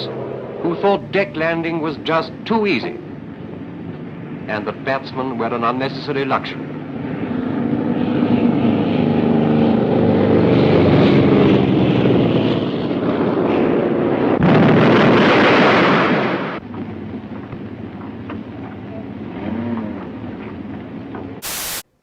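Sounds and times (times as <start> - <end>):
propeller aircraft engine: 0.0 - 14.4, 16.4 - 21.4.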